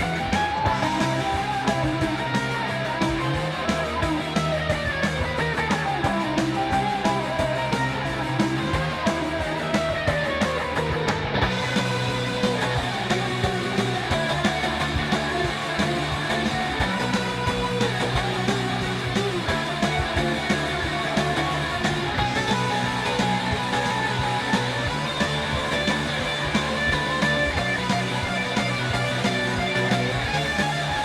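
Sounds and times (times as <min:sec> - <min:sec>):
rock music with guitar: 0:00.0 - 0:31.0.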